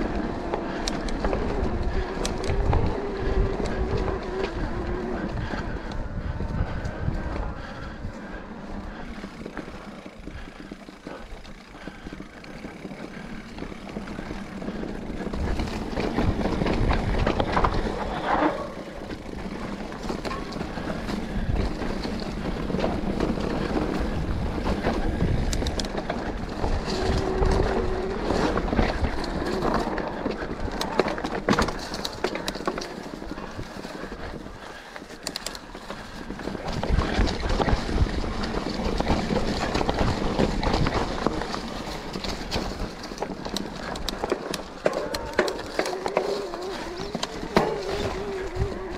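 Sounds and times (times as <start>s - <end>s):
bike frame rattling: 0.0s - 48.9s
bike tyres on dirt: 0.0s - 48.9s.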